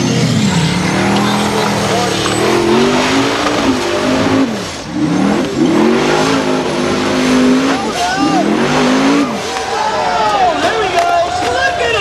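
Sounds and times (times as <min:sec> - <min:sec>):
buggy engine revving hard: 0:00.0 - 0:10.0.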